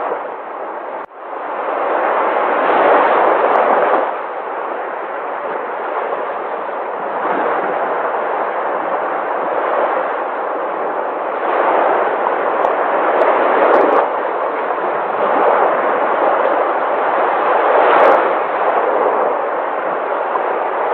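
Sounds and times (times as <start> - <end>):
sea waves washing ashore: 0.0 - 20.9.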